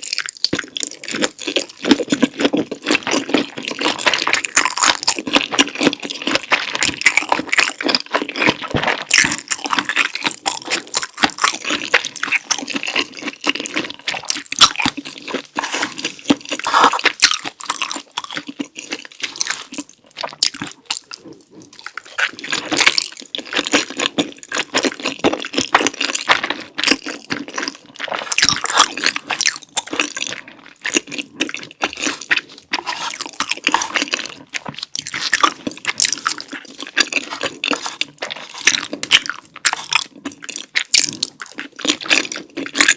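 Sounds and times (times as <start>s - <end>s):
wet sticky chewing: 0.0s - 42.9s.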